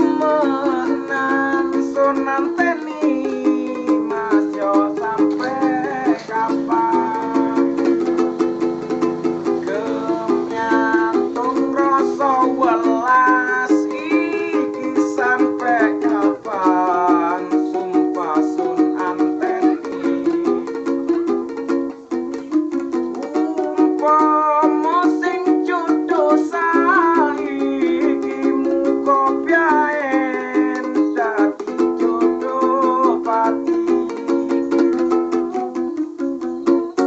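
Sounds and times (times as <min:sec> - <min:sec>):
person singing: 0:00.0 - 0:37.0
small string instrument strummed: 0:00.0 - 0:37.0.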